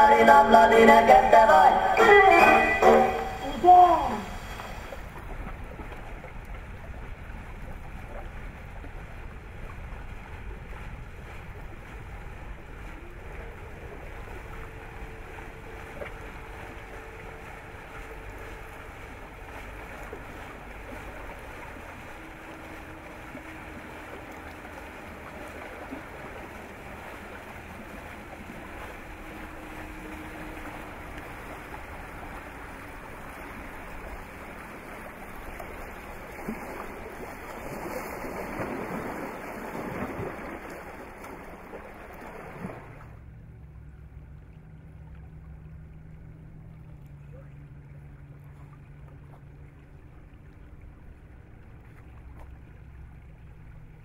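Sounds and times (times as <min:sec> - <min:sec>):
faint humming tones: 0:00.0 - 0:54.0
water washing around a boat: 0:00.0 - 0:54.0.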